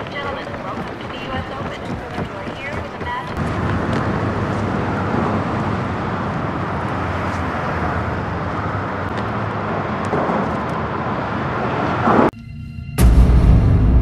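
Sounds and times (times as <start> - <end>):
distant road traffic rumble: 0.0 - 12.3.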